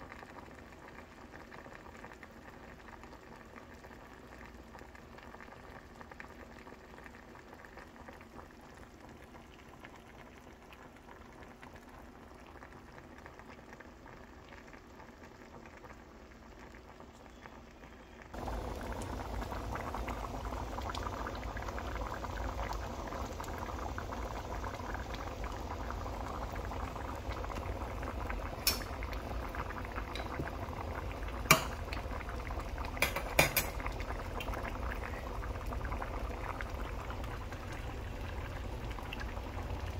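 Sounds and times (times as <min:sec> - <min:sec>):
faint cooking sound: 0:00.0 - 0:39.9
stew bubbling at a boil: 0:00.0 - 0:39.9.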